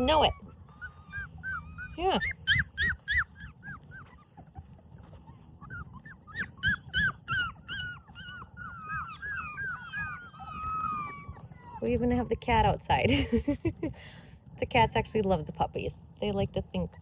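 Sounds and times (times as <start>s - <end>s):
puppies whimpering: 0.0s - 13.9s, 14.7s - 15.5s.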